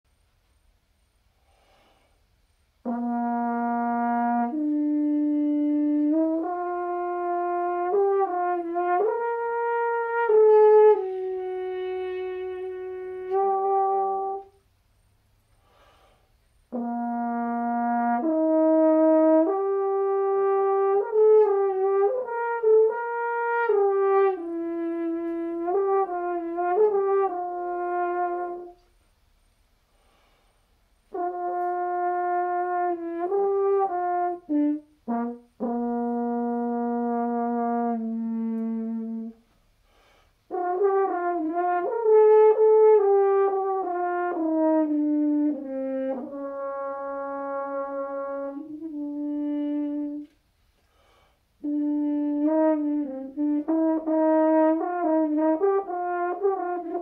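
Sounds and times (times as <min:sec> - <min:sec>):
natural horn solo: 0:02.8 - 0:14.8, 0:16.7 - 0:29.0, 0:31.1 - 0:57.0.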